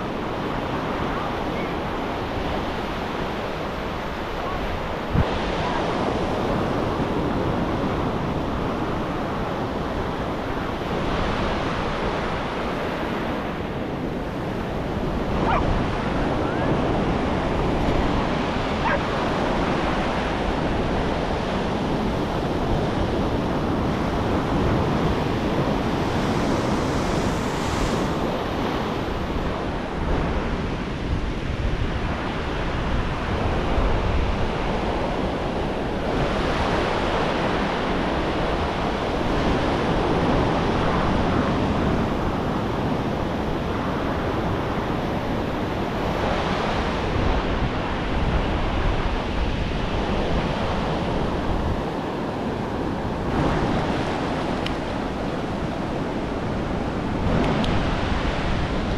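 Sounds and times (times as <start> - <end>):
surf washing up beach: 0.0 - 58.9
wind buffeting microphone: 0.0 - 58.9.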